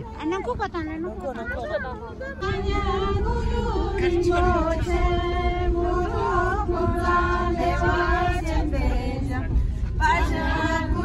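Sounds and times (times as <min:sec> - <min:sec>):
bus engine rumble: 0:00.0 - 0:11.0
women singing in unison: 0:01.9 - 0:11.0.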